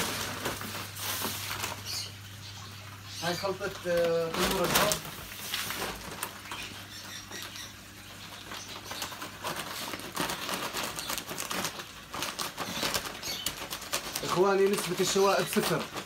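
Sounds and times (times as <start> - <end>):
paper sack rustling: 0.0 - 2.1, 3.3 - 6.6, 8.4 - 16.0.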